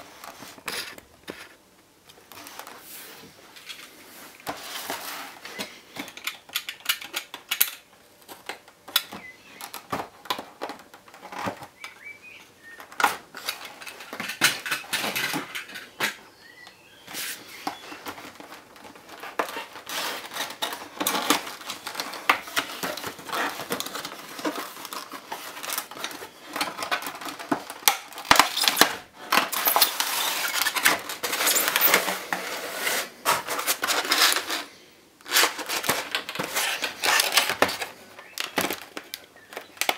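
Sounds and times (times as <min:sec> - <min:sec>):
plastic packaging rustling: 0:00.0 - 0:39.9.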